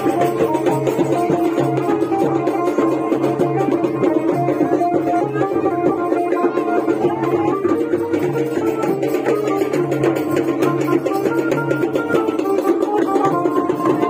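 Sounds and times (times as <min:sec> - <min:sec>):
folk melody of held notes: 0:00.0 - 0:14.0
hand drums steady rhythm: 0:00.0 - 0:14.0.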